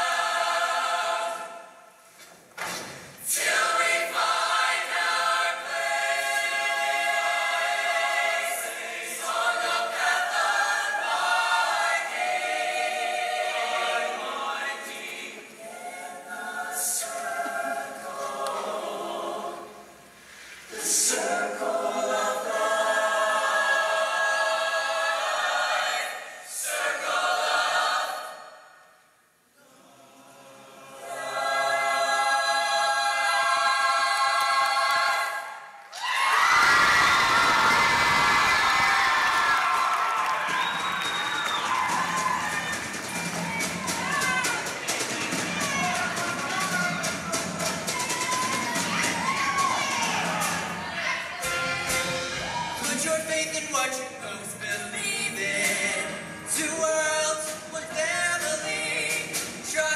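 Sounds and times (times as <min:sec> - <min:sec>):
choir singing in harmony: 0:00.0 - 0:35.9, 0:40.4 - 0:53.2, 0:53.8 - 0:59.9.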